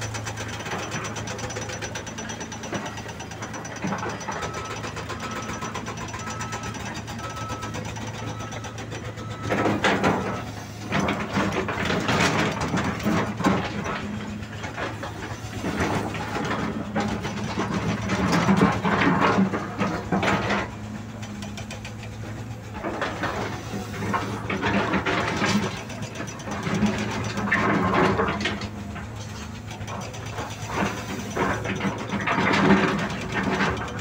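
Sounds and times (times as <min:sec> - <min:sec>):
diesel engines running: 0:00.0 - 0:34.0
metallic clanking and squealing: 0:00.1 - 0:34.0.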